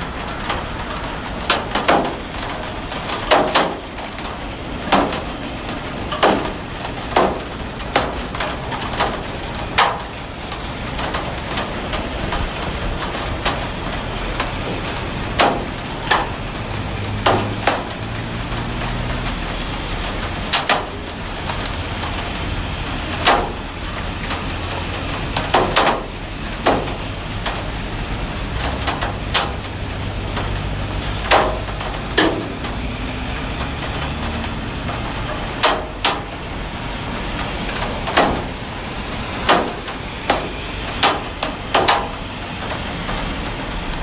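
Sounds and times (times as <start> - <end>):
heavy rain: 0.0 - 44.0.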